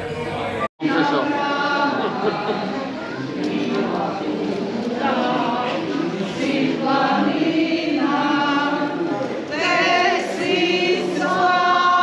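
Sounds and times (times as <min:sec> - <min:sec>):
choir singing sustained notes: 0:00.4 - 0:12.0.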